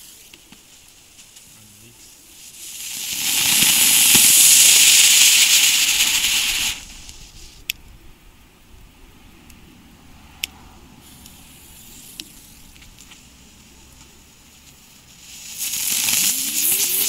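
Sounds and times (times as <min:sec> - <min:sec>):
firework fizzing hiss: 0:00.0 - 0:07.7, 0:11.0 - 0:17.0.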